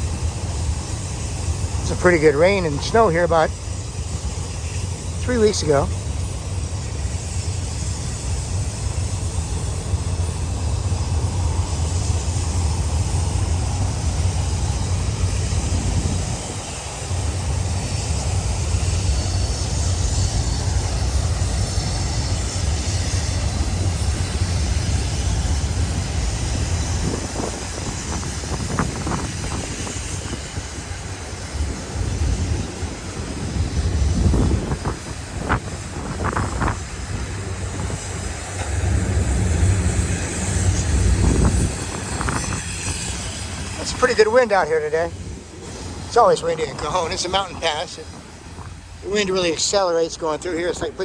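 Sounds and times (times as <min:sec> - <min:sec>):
freight train rolling past: 0:00.0 - 0:51.0.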